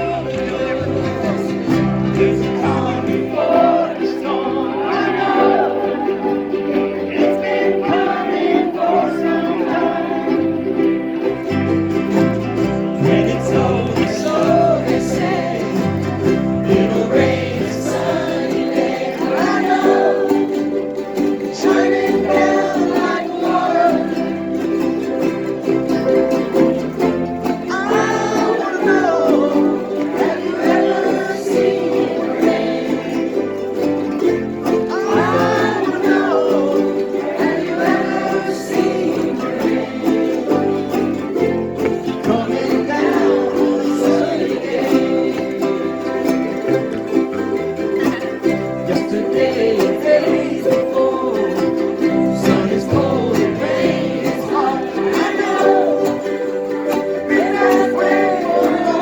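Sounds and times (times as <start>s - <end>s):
people singing: 0.0s - 59.0s
ukuleles strumming chords: 0.0s - 59.0s.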